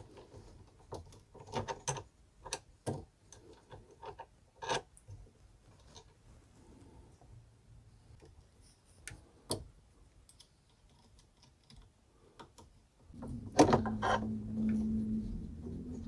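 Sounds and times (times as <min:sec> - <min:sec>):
low hum with held tone: 0:00.0 - 0:16.0.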